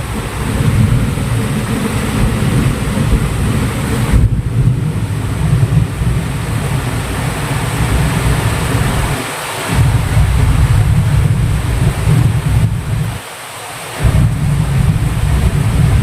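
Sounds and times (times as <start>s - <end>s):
wind buffeting microphone: 0.0s - 13.2s, 13.9s - 16.0s
heavy rain pouring: 0.0s - 16.0s.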